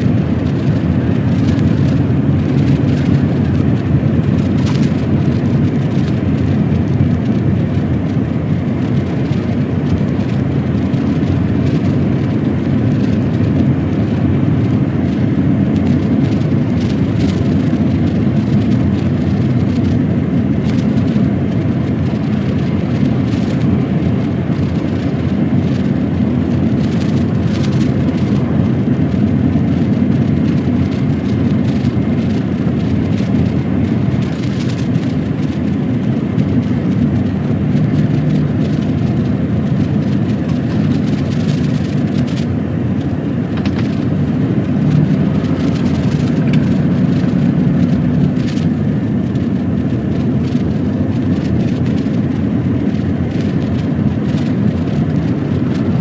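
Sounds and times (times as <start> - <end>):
road noise: 0.0 - 56.0
truck diesel engine: 0.0 - 56.0.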